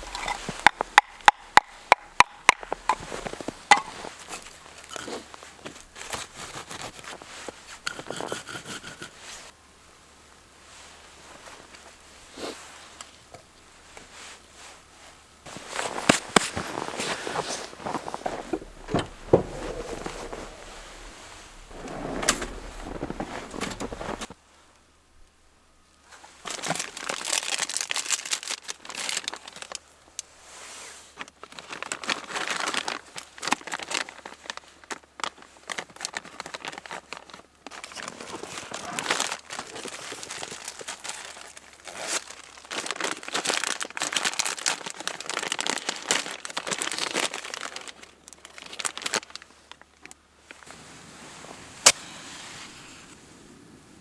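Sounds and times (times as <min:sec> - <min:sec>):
rustling and crinkling handling: 0:00.0 - 0:08.3, 0:10.7 - 0:24.8, 0:26.0 - 0:53.2.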